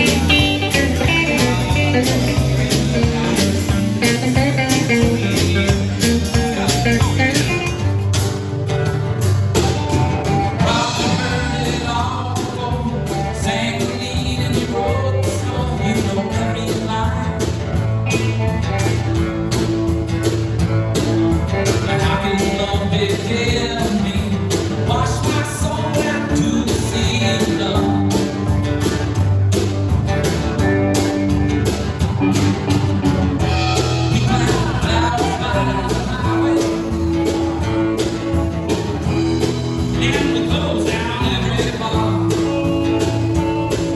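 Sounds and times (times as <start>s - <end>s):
person singing: 0.0s - 7.9s, 9.6s - 19.2s, 21.6s - 29.0s, 33.4s - 43.9s
rock and roll band playing: 0.0s - 43.9s.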